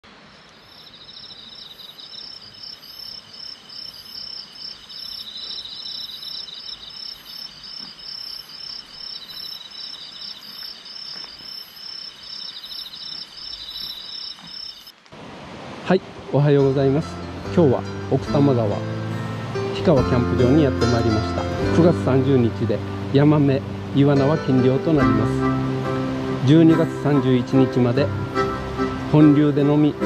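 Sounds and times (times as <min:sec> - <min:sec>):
crickets and insects chirping: 0:00.0 - 0:15.7, 0:20.2 - 0:30.0
stream water flowing: 0:00.0 - 0:30.0.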